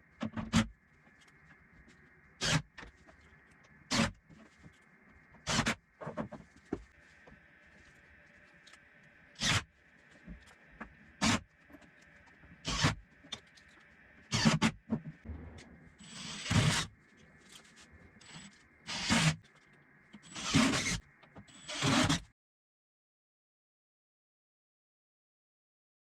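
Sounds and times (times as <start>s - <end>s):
faint steady hum: 0.0s - 21.7s.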